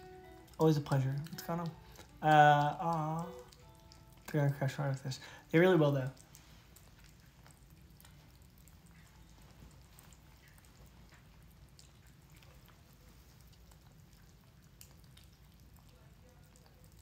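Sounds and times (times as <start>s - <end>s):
kittens eating wet clicking: 0.0s - 17.0s
low steady hum: 0.0s - 17.0s.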